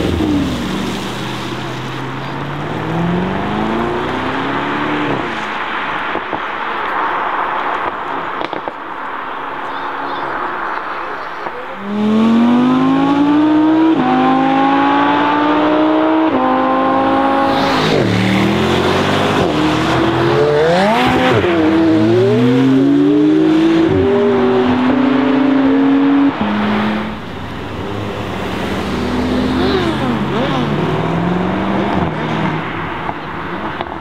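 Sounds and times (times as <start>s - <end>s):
sports car engine accelerating: 0.0s - 5.5s, 11.8s - 33.9s
car engine pulling away: 0.0s - 6.3s, 11.8s - 34.0s.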